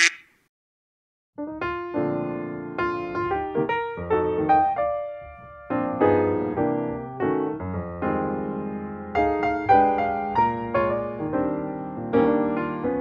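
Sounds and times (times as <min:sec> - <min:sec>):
gentle piano music: 0:01.4 - 0:13.0.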